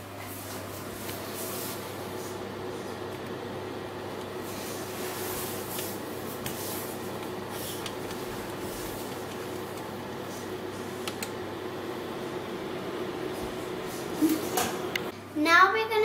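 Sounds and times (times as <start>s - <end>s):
oven electric hum: 0.0s - 16.0s.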